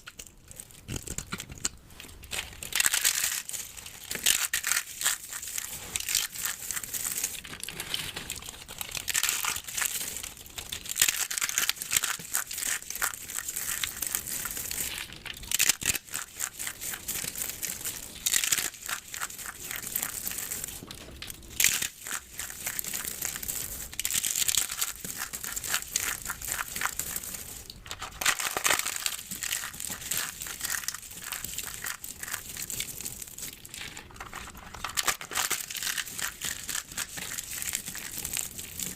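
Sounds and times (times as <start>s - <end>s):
soap crushed by hand crackling: 0.0s - 38.9s.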